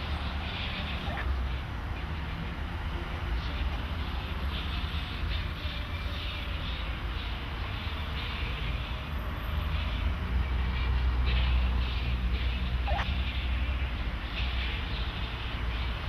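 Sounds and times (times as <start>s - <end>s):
road traffic rumble: 0.0s - 16.0s
vehicle passing: 0.0s - 16.0s.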